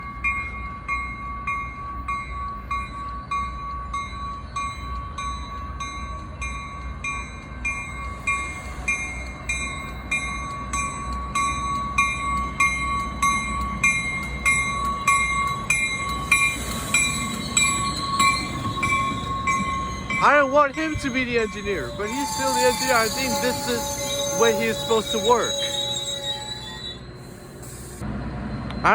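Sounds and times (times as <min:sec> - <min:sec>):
railroad warning bell ringing: 0:00.0 - 0:28.9
train rumble: 0:00.0 - 0:28.9.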